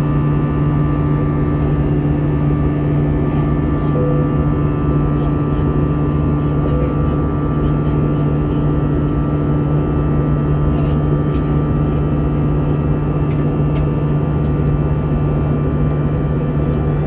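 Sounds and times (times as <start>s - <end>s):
airplane cabin drone: 0.0s - 17.0s.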